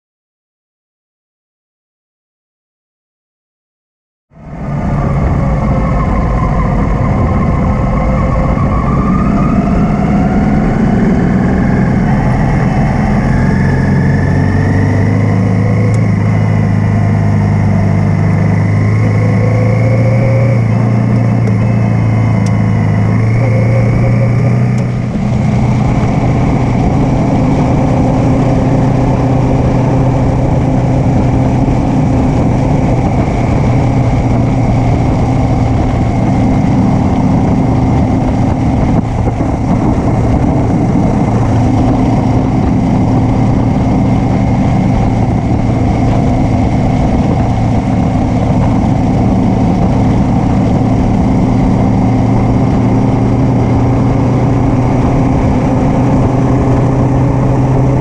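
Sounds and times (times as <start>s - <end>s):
motorcycle engine riding: 4.3s - 58.0s
wind rush: 4.3s - 58.0s.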